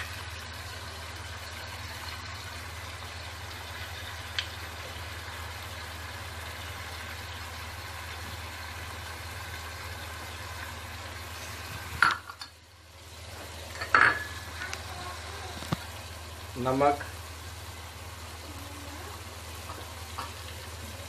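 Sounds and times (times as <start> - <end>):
masala sizzling in a pan: 0.0 - 21.0.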